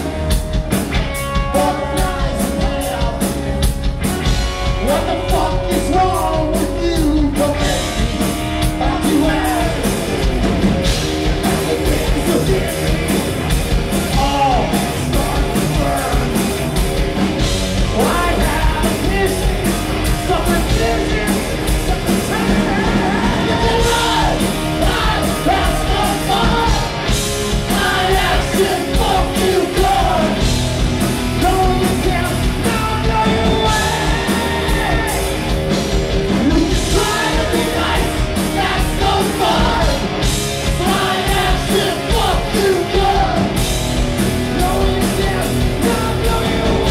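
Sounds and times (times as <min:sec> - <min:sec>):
bass guitar: 0:00.0 - 0:46.9
drum kit: 0:00.0 - 0:46.9
electric guitar: 0:00.0 - 0:46.9
singer: 0:01.4 - 0:10.3, 0:11.2 - 0:16.8, 0:17.9 - 0:27.1, 0:27.7 - 0:30.5, 0:31.4 - 0:35.6, 0:36.3 - 0:43.7, 0:44.5 - 0:46.9.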